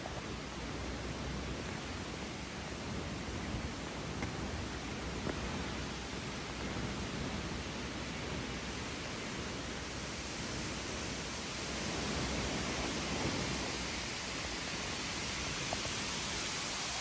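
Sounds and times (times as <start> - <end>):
wind buffeting microphone: 0.0 - 17.0
wind through trees: 0.0 - 17.0.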